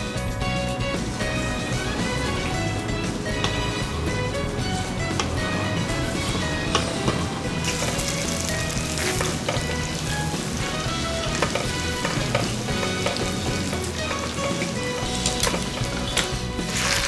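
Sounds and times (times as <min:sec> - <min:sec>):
deep-frying sizzle with pops: 0:00.0 - 0:17.0.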